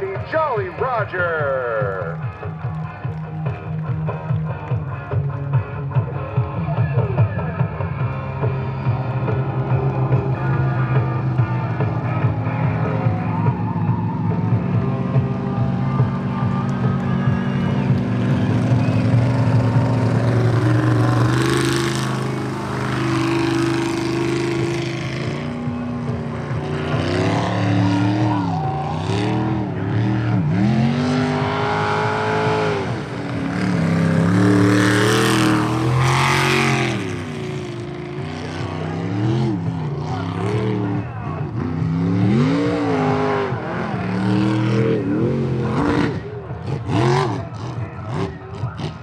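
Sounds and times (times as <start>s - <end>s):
boat engine revving: 7.7s - 49.0s.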